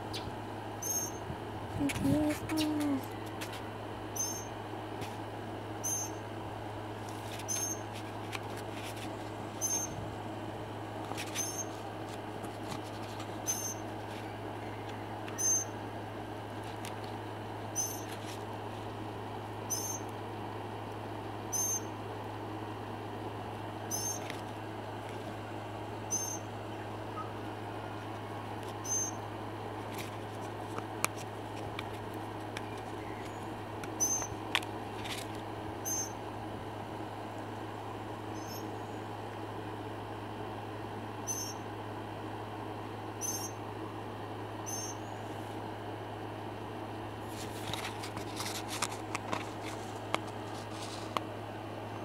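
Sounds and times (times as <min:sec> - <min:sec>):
low hum with faint hiss: 0:00.0 - 0:52.0.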